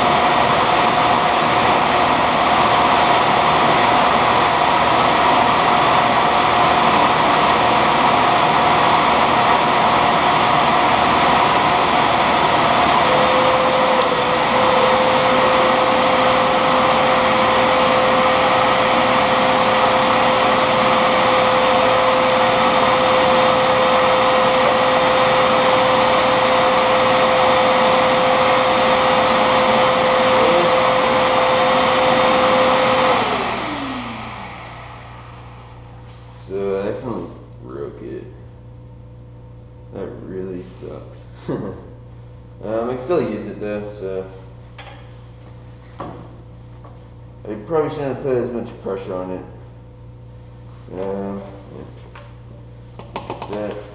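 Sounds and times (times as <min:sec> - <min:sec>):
shop vacuum running: 0:00.0 - 0:53.9.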